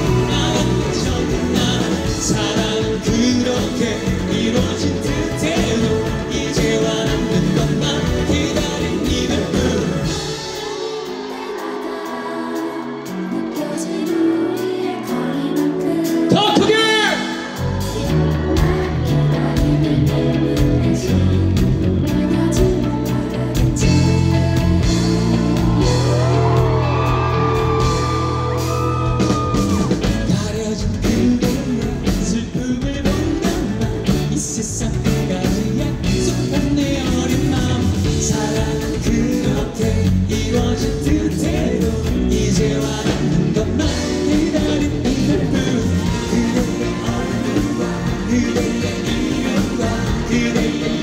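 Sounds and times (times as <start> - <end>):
live rock band: 0.0 - 51.0
person singing: 0.0 - 51.0.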